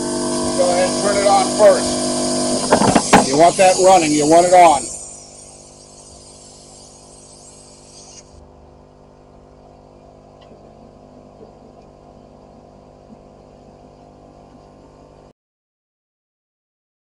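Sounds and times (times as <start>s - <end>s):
air compressor running: 0.0s - 15.2s.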